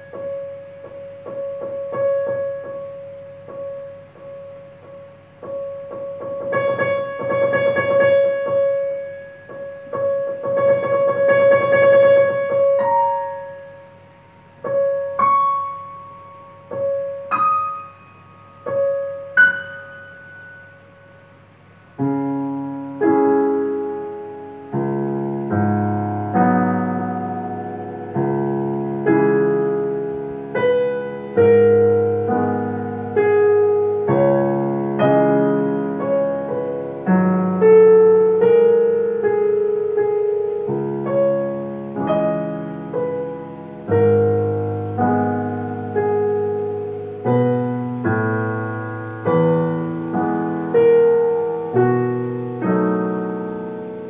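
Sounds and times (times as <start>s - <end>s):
piano playing: 0.0s - 54.0s.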